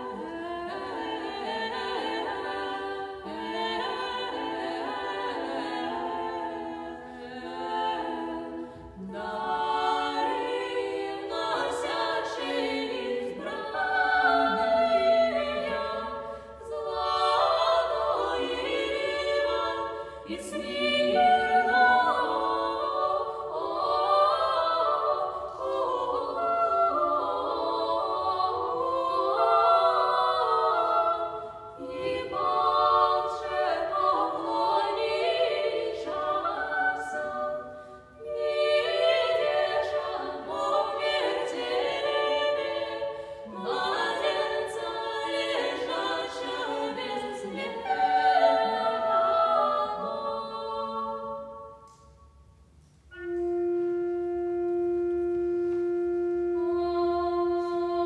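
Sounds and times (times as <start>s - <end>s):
a cappella choir singing: 0.0s - 58.0s.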